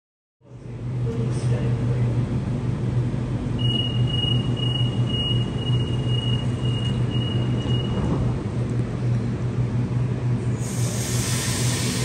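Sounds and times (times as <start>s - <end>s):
train steady low hum: 0.4s - 12.0s.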